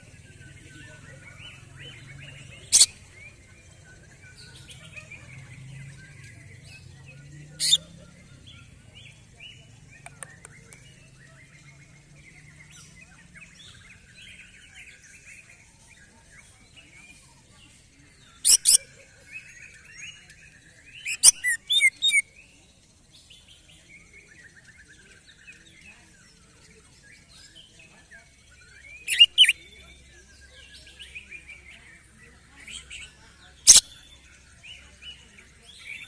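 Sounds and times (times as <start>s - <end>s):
loud bird chirps: 0.0s - 6.9s, 7.5s - 17.2s, 18.1s - 22.6s, 23.2s - 36.0s
bird warbling and chattering: 0.0s - 22.6s, 24.4s - 36.0s.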